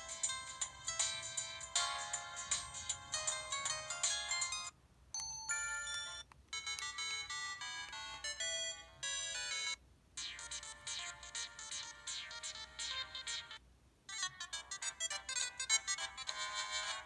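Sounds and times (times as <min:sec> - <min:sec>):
phone ringtone melodies: 0:00.0 - 0:17.0.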